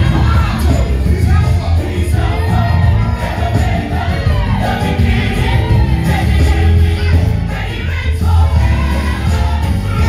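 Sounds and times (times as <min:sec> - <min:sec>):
deep bass accompaniment: 0:00.0 - 0:10.0
gospel choir singing: 0:00.0 - 0:10.0.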